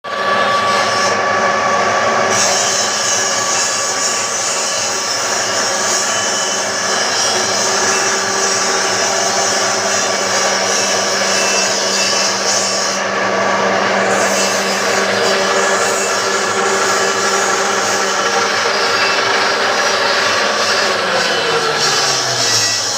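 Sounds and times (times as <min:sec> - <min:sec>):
pellet mill running: 0:00.0 - 0:22.9.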